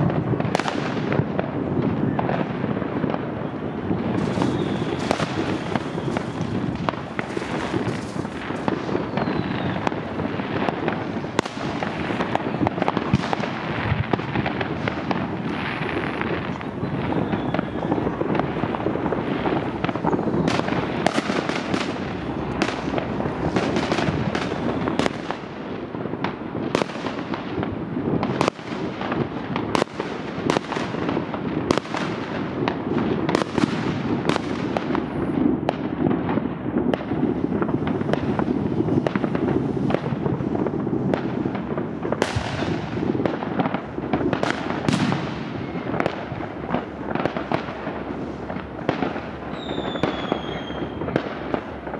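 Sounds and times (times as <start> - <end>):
fireworks bangs: 0.0 - 51.9
fireworks crackle: 0.0 - 51.9.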